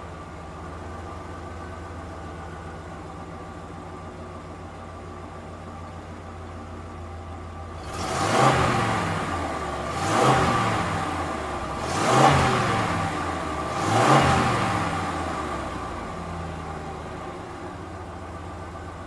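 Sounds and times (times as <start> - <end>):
truck engine idling and revving: 0.0 - 19.0.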